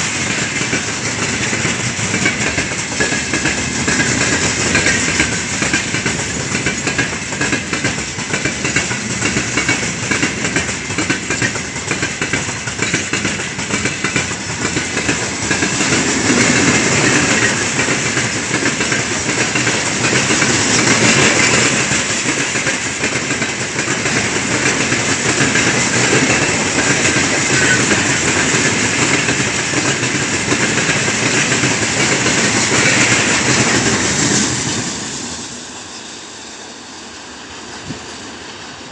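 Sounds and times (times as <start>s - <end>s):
freight train wheels clattering: 0.0s - 36.2s.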